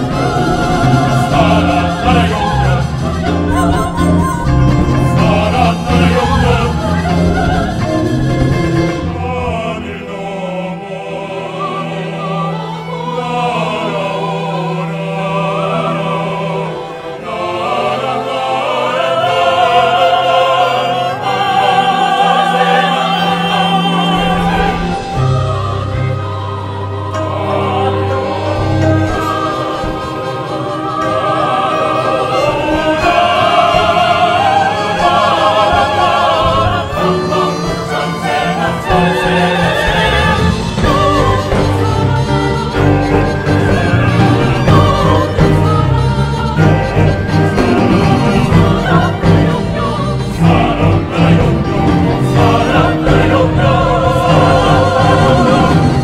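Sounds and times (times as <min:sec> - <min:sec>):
low accompaniment: 0:00.0 - 0:56.0
music with singing voices: 0:00.0 - 0:56.0.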